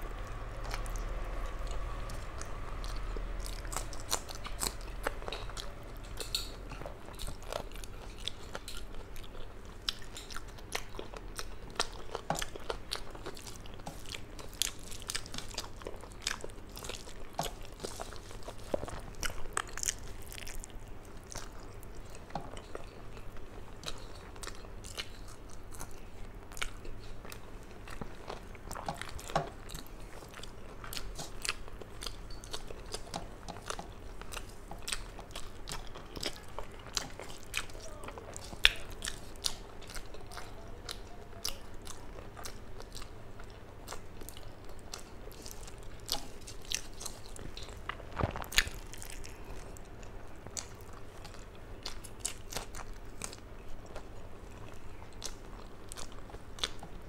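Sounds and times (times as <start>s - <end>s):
chewing with wet mouth clicks: 0.1s - 57.0s.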